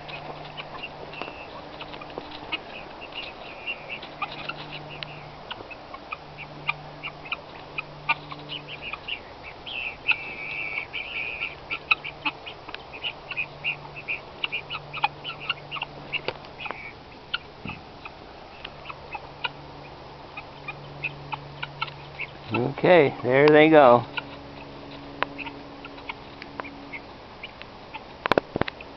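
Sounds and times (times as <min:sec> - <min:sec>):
faint low hum: 0:00.0 - 0:28.9
guinea hens calling: 0:00.0 - 0:28.9.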